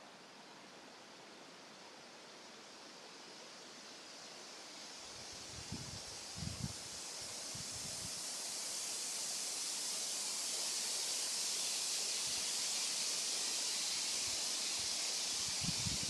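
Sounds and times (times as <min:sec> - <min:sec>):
leaves rustling in wind: 0:02.3 - 0:16.0.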